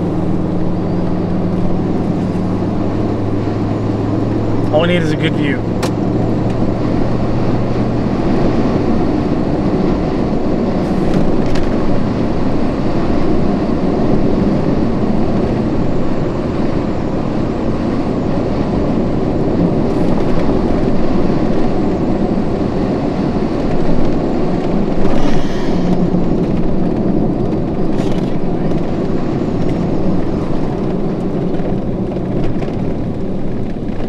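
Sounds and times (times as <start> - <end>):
road and engine noise in vehicle: 0.0 - 34.0.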